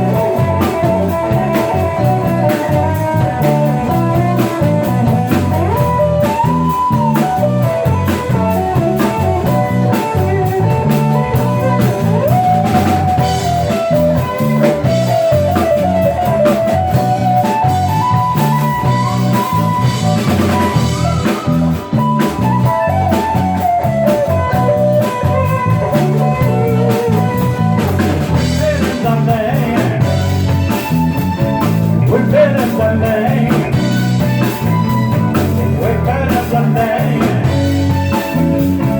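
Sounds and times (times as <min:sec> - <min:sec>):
bass guitar: 0:00.0 - 0:38.9
drum kit beat: 0:00.0 - 0:38.9
lead guitar bending pitch: 0:00.0 - 0:38.9.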